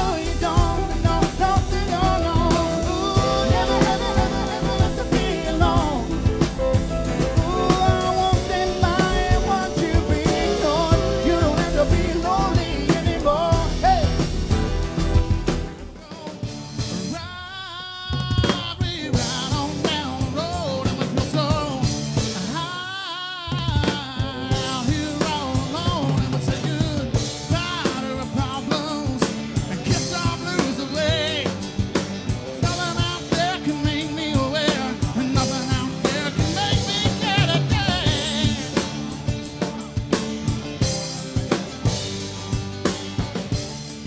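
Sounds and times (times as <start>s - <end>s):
drum kit steady beat: 0.0s - 17.4s, 18.1s - 22.9s, 23.5s - 44.0s
band music with singing: 0.0s - 44.0s.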